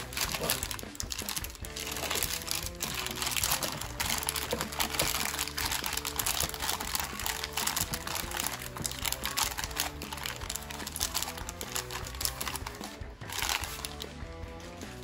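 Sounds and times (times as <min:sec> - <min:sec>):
plastic bag crinkling: 0:00.0 - 0:14.1
background music: 0:00.0 - 0:15.0.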